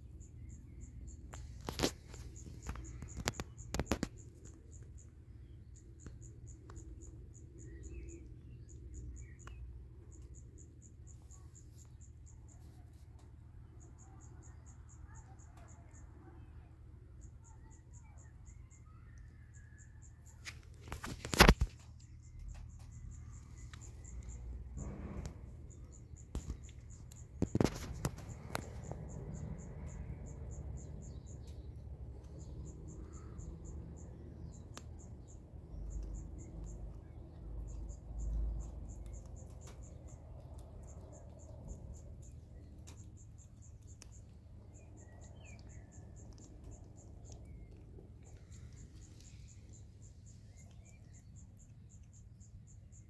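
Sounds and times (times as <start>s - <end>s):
cricket chirping: 0.0s - 53.0s
kitten chewing with crunches: 0.1s - 12.2s, 20.6s - 52.9s.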